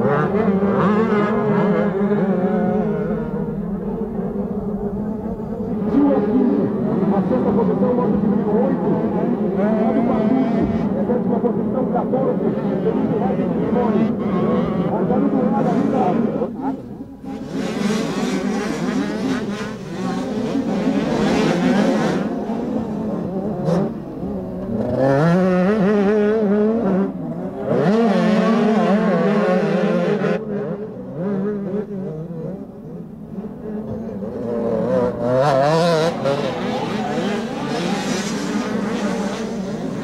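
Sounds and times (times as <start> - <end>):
two-stroke motorbike engines revving: 0.0 - 40.0.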